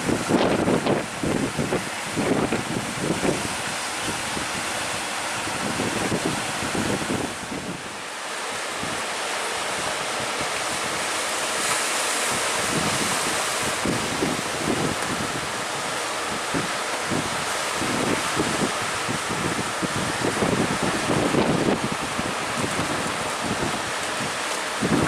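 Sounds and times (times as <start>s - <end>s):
sea surf rushing: 0.0s - 25.0s
wind buffeting microphone: 0.0s - 25.0s.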